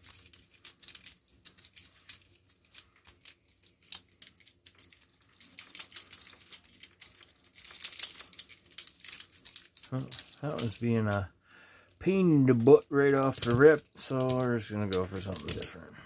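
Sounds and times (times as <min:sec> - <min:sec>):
handcuffs clinking: 0:00.0 - 0:11.3, 0:12.6 - 0:15.9.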